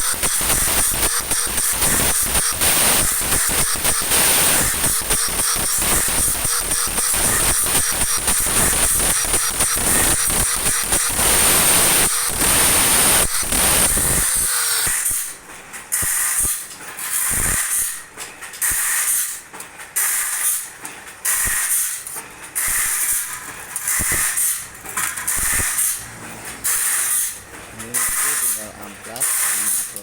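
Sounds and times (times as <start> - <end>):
electric grinder grinding blade: 0.0 - 15.4, 16.0 - 18.0, 21.4 - 30.0.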